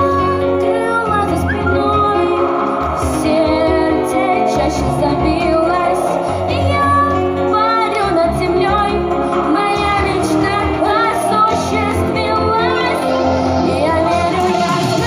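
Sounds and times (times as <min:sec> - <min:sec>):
backing track with bass beat: 0:00.0 - 0:15.0
woman singing with vibrato: 0:00.0 - 0:15.0.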